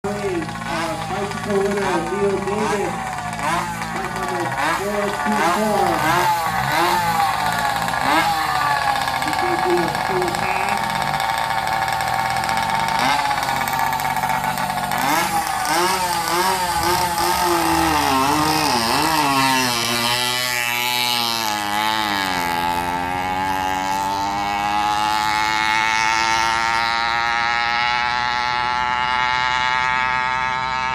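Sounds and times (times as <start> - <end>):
two-stroke engine revving: 0.0 - 30.9.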